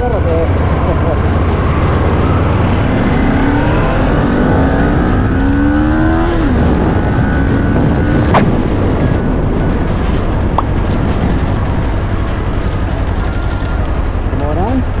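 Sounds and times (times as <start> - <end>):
motorcycle engine accelerating: 0.0 - 15.0
wind rumble on microphone: 0.0 - 15.0.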